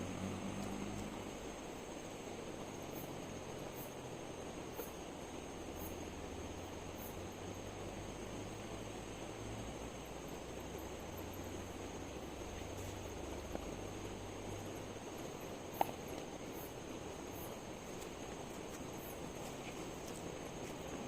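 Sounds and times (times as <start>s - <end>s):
insects chirring: 0.0s - 21.0s
outdoor background hiss: 0.0s - 21.0s.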